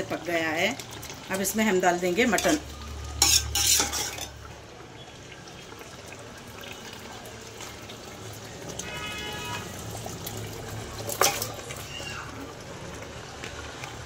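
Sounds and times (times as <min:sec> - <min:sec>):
meat and liquid poured in: 0:00.0 - 0:14.0
spices sizzling in a pot: 0:00.0 - 0:14.0.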